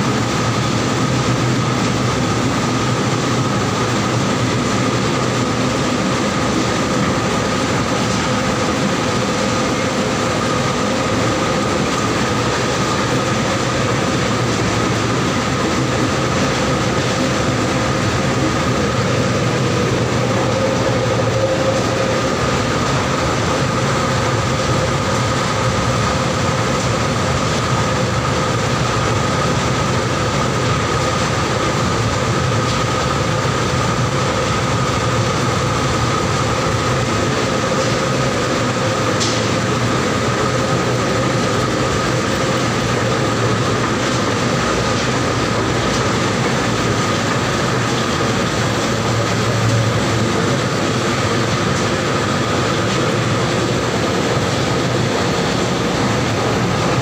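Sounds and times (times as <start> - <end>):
constant whine: 0.0 - 57.0
machine mechanical drone: 0.0 - 57.0.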